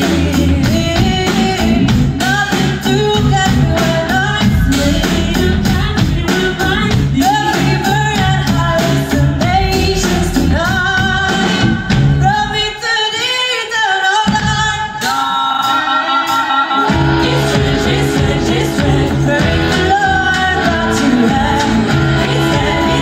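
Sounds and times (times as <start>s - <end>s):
live band playing: 0.0s - 23.0s
woman singing lead: 0.0s - 23.0s.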